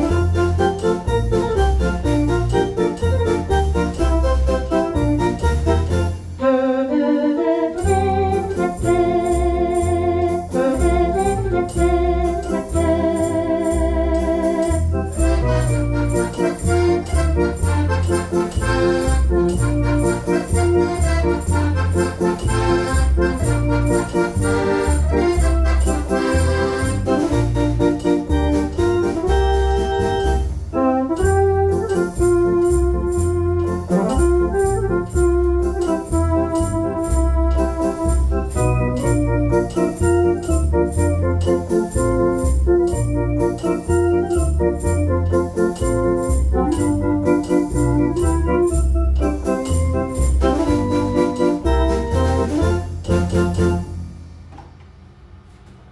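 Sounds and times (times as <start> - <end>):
dance organ music: 0.0 - 54.0.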